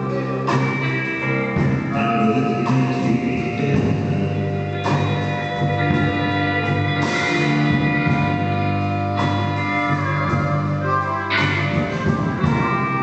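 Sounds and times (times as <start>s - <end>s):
blues band playing: 0.0s - 13.0s
guitar: 0.0s - 13.0s.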